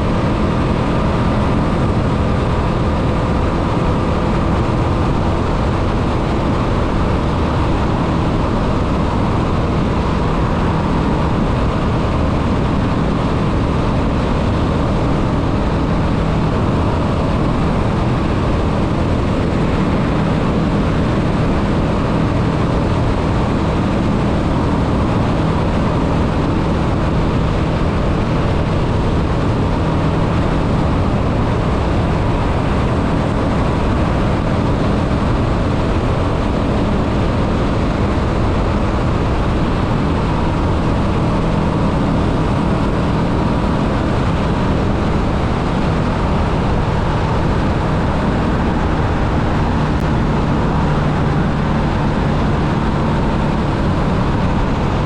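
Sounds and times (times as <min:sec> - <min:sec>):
motorcycle engine cruising: 0:00.0 - 0:55.0
wind rush over microphone: 0:00.0 - 0:55.0.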